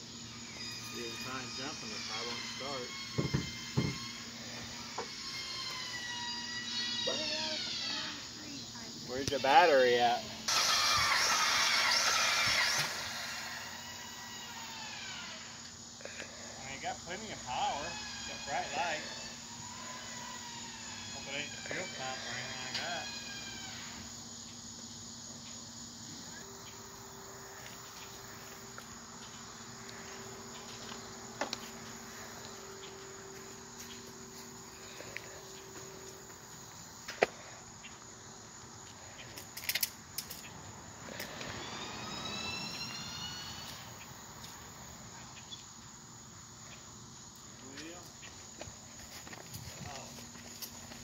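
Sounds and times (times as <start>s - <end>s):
insects buzzing: 0.0s - 51.0s.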